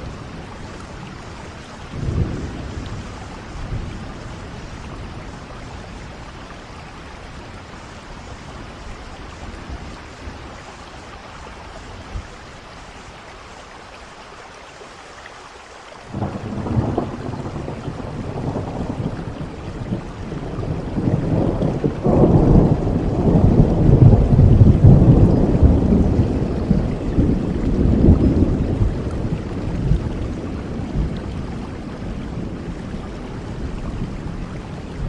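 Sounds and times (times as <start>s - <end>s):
thunder rumbling: 0.0s - 10.7s, 16.1s - 35.0s
steady rain falling: 0.0s - 35.0s.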